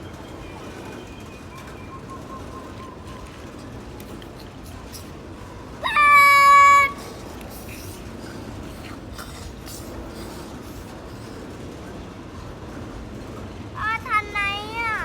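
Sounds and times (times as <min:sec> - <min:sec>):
freight train wagons rumbling: 0:00.0 - 0:15.0.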